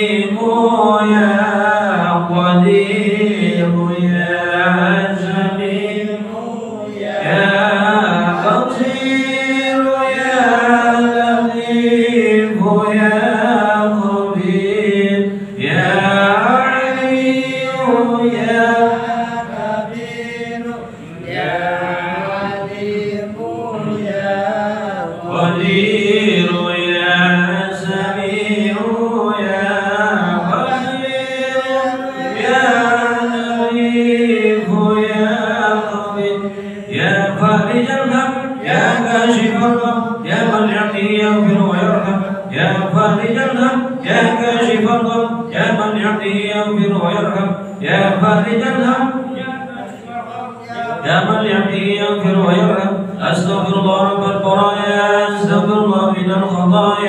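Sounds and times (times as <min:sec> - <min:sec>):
voices chanting: 0:02.8 - 0:57.0.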